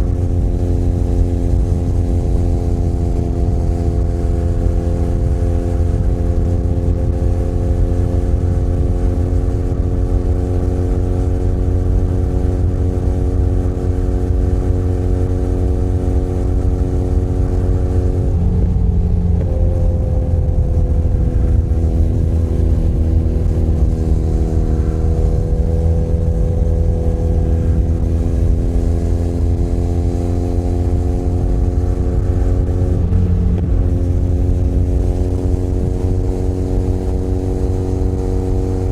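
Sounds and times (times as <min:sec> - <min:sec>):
low wind rumble: 0:00.0 - 0:38.9
motorcycle engine cruising: 0:00.0 - 0:38.9.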